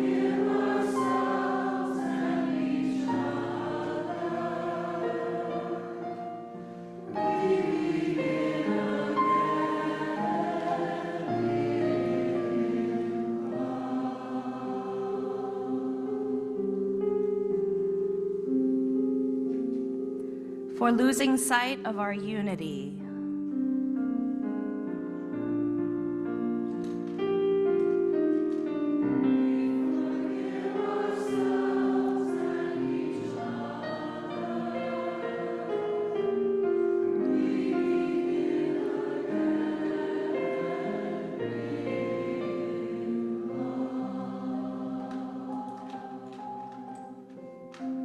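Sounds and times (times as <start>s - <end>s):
choir singing slowly: 0.0s - 18.0s, 26.3s - 48.0s.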